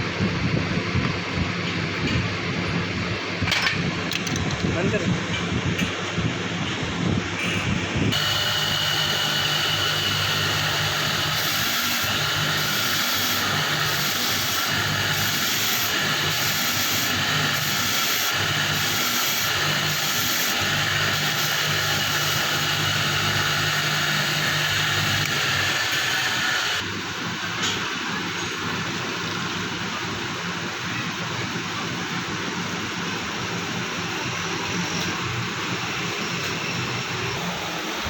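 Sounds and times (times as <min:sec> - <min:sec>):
machine running with high whine: 0:00.0 - 0:38.0.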